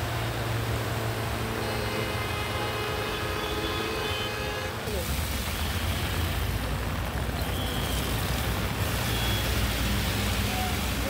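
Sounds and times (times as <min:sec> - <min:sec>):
engines rumbling in traffic: 0:00.0 - 0:11.0.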